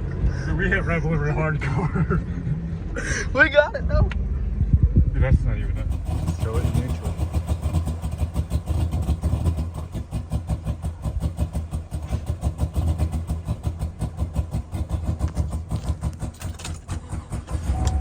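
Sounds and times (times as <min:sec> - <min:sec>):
engine idling with pulsing exhaust: 0:00.0 - 0:18.0.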